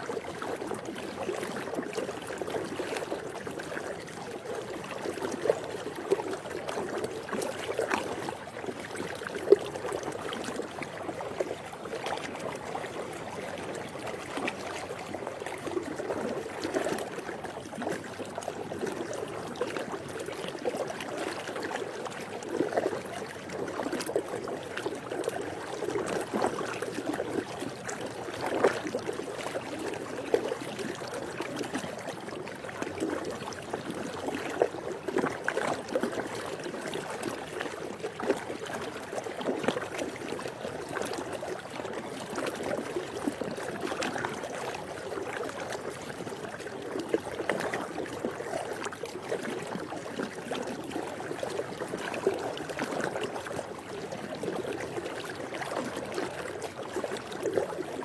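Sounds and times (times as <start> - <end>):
pool water lapping and gurgling: 0.0 - 58.0.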